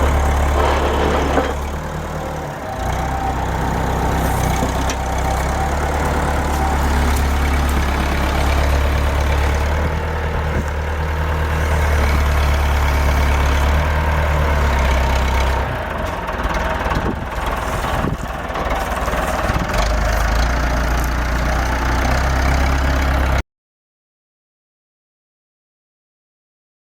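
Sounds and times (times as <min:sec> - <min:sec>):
tractor engine rumbling: 0:00.0 - 0:23.4.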